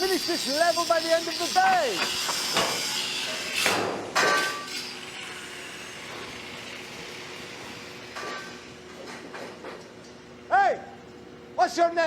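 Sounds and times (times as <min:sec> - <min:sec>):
building site noise: 0:00.0 - 0:12.0.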